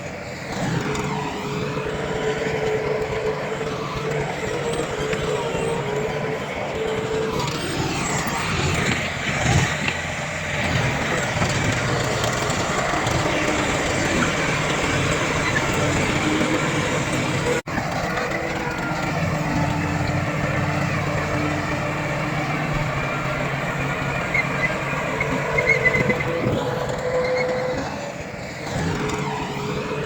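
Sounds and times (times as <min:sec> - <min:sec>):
diesel machinery running: 0:00.0 - 0:30.0
machinery whine: 0:00.0 - 0:30.0.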